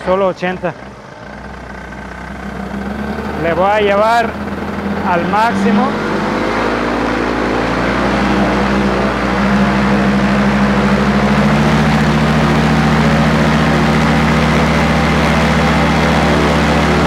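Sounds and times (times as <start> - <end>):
two-stroke paramotor engine: 0.0 - 17.0.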